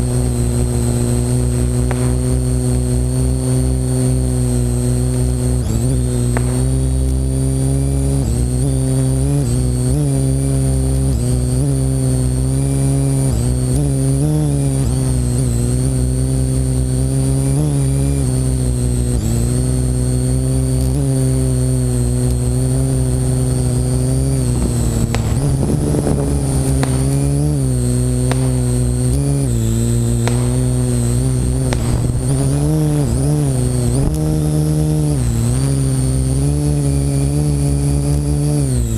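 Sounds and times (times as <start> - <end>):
drone propellers whirring: 0.0 - 38.9
high motor whine: 0.0 - 38.9.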